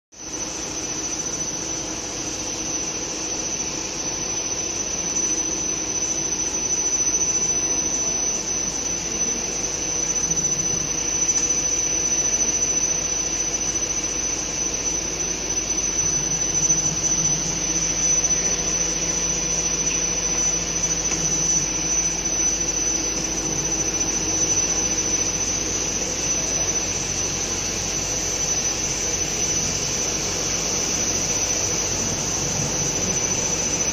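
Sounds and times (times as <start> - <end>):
high-pitched machine whine: 0.1 - 33.9
machine drone: 0.2 - 33.9.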